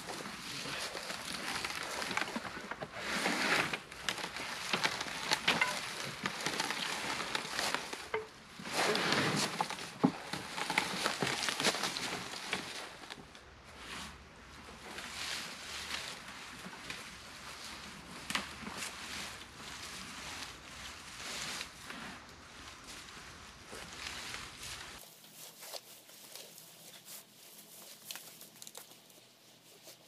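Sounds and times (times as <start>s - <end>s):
rustling and crackling in brush: 0.0s - 30.0s.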